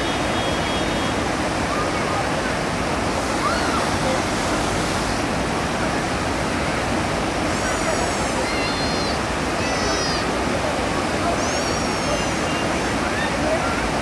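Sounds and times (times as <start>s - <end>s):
river rushing over boulders: 0.0s - 14.0s.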